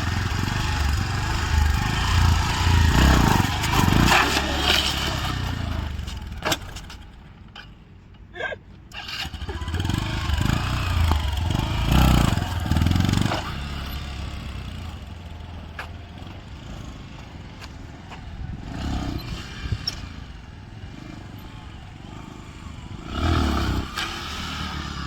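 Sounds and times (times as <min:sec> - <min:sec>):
motorcycle engine revving: 0:00.0 - 0:06.8, 0:09.0 - 0:25.0.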